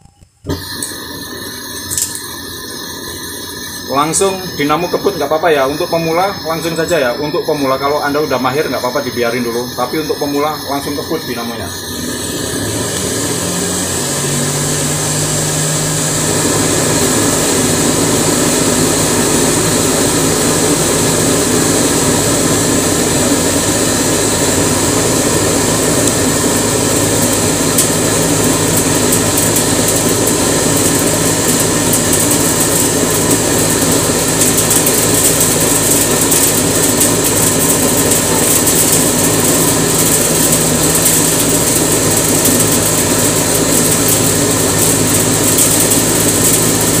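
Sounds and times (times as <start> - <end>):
cotton candy machine humming: 0.0 - 47.0.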